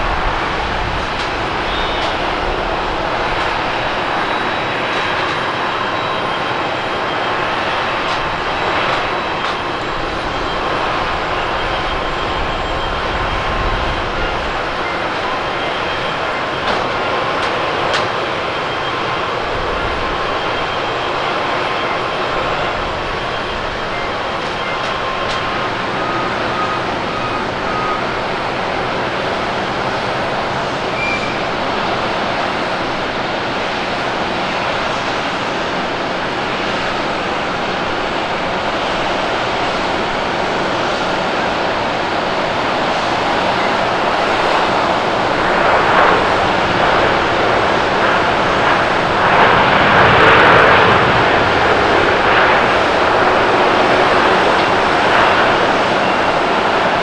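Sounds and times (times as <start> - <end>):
jet airliner engine noise: 0.0 - 57.0.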